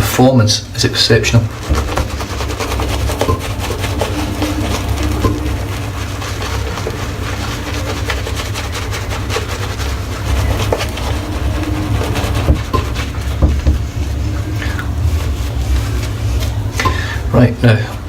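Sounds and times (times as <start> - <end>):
steady low rumble: 0.6 - 18.0
shaving brush swishing lather: 0.8 - 18.0.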